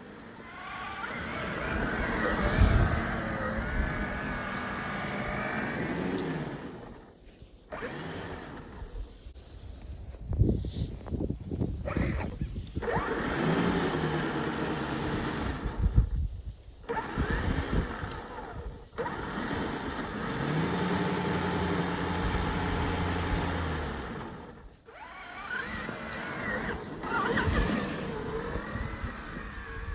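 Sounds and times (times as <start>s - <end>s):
toy truck motor whining: 0.0s - 9.1s, 11.7s - 16.1s, 16.8s - 29.9s.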